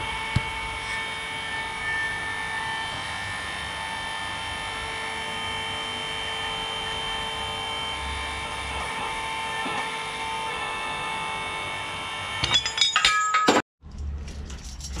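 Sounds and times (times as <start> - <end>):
mechanical hum with high whine: 0.0 - 12.8.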